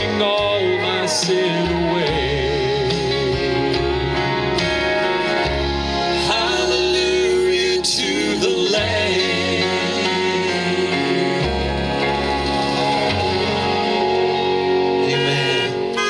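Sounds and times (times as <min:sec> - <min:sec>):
country gospel band music: 0:00.0 - 0:16.0
sliding melody line: 0:00.0 - 0:16.0.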